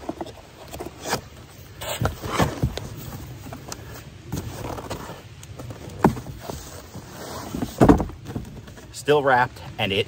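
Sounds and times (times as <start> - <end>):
cardboard box rustling and scraping: 0.0 - 9.0.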